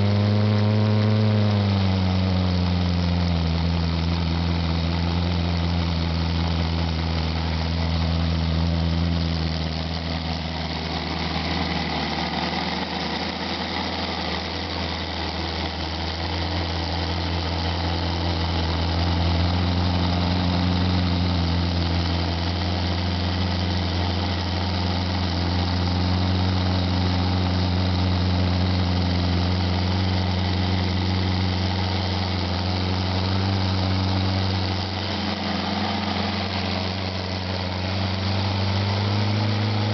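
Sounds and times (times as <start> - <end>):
radial engine droning: 0.0 - 39.9.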